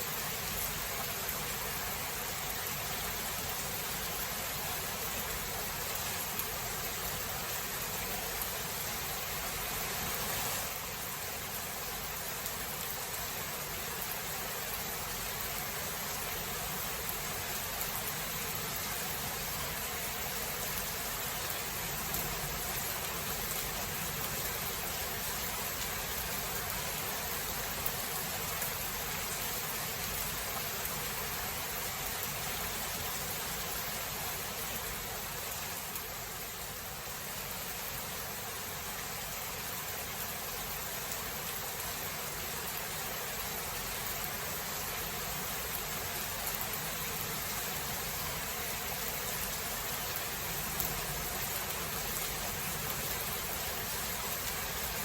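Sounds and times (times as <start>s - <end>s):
dense rain: 0.0s - 55.0s.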